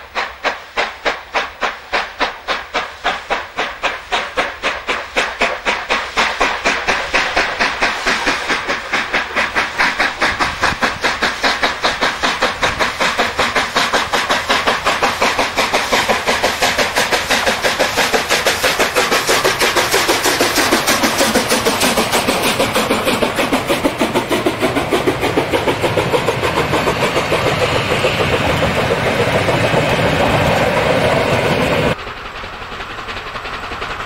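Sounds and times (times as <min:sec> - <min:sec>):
steam locomotive exhaust beating: 0:00.0 - 0:34.0.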